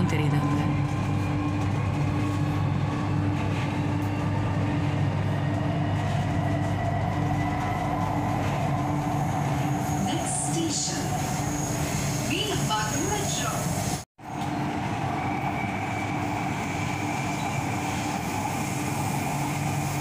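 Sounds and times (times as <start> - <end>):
metro train rumbling: 0.0 - 20.0.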